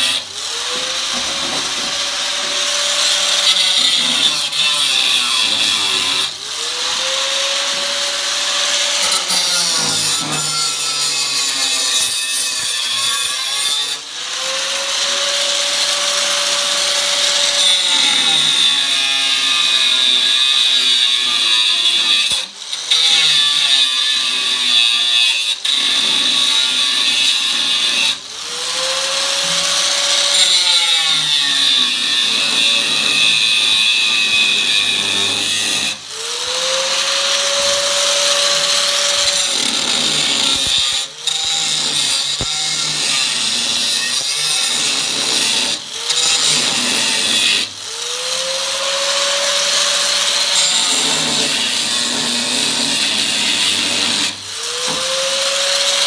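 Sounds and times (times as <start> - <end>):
power tool cutting metal: 0.0 - 56.0.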